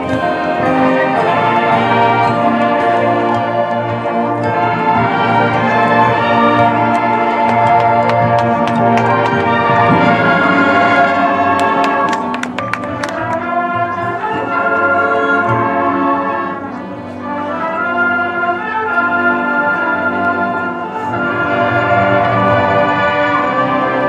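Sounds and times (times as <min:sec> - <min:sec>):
marching band brass chords: 0:00.0 - 0:24.0.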